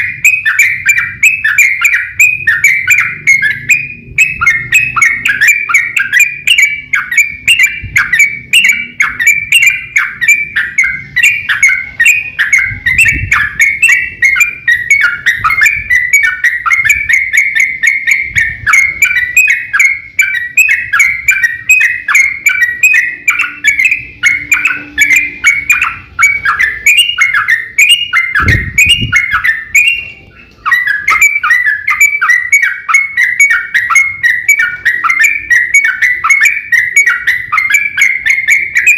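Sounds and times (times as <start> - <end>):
bulbul singing warbled notes: 0.0 - 38.9.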